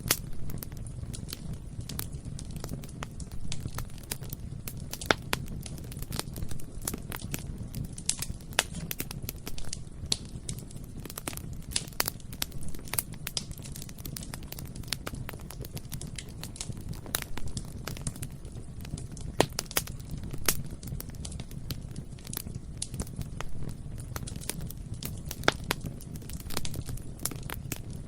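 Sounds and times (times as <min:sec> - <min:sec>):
bonfire roaring: 0:00.0 - 0:28.0
burning wood crackling and popping: 0:00.0 - 0:28.0.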